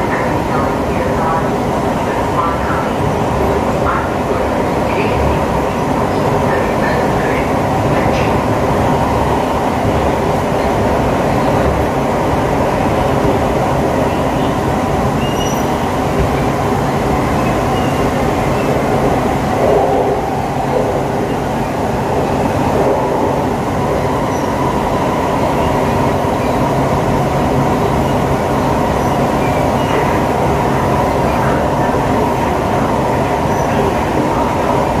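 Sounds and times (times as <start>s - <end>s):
rumble of train wheels on rail: 0.0s - 35.0s.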